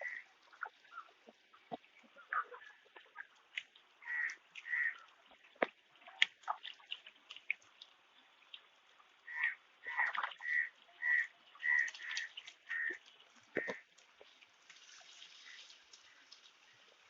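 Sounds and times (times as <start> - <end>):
fish splashing at water surface: 2.9 - 17.0.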